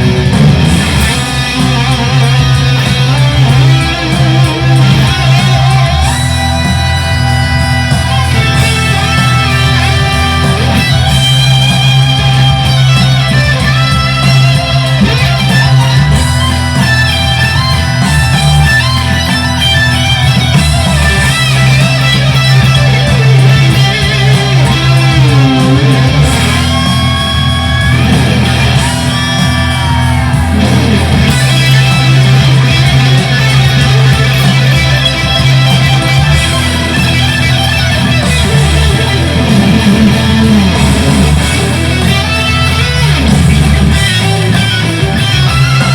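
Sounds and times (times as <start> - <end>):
electric guitar improvising: 0.0 - 45.9.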